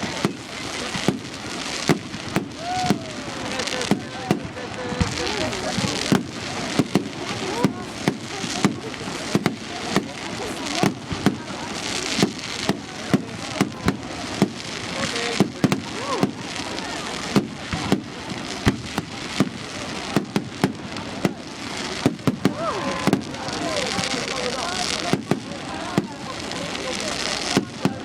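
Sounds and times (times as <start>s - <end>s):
fireworks bangs: 0.0s - 28.0s
fireworks crackle and hiss: 0.0s - 28.0s.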